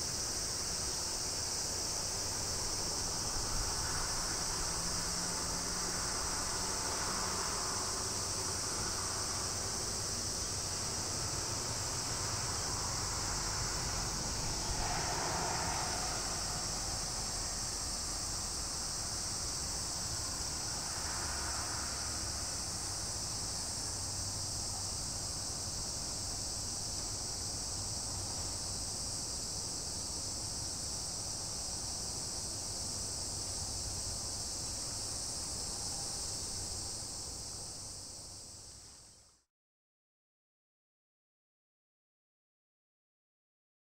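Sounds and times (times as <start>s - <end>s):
shrill insect chorus: 0.0s - 39.4s.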